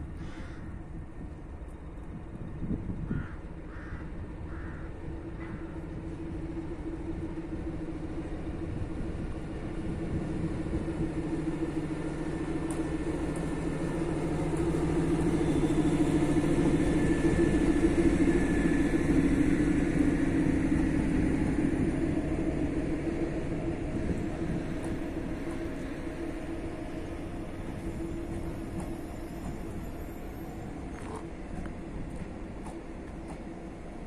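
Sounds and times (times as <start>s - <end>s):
diesel locomotive engine rumbling: 0.0s - 34.0s.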